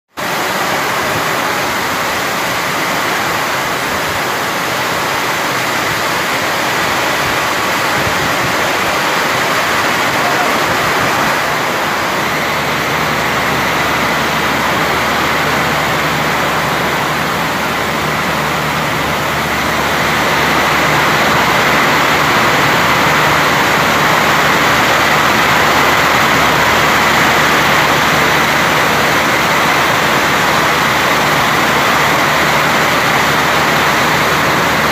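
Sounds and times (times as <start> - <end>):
heavy rain downpour: 0.2 - 34.9
wind: 0.2 - 34.9.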